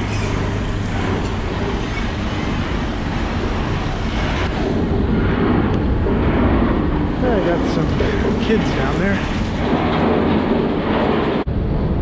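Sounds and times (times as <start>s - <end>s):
motor vehicle rumble: 0.0s - 12.0s
street noise: 0.0s - 12.0s.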